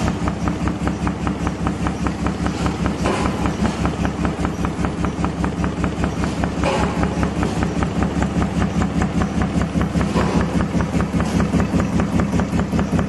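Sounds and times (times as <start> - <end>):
motor hum: 0.0 - 13.0
punching machine strokes knocking: 0.0 - 13.0.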